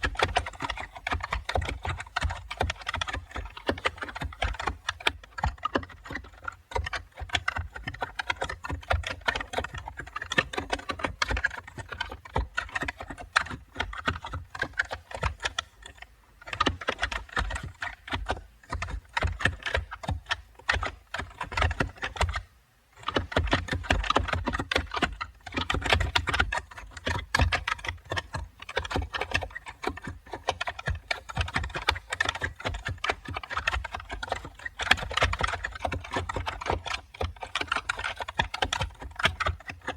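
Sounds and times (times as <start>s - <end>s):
fast typing on a keyboard: 0.0s - 39.9s.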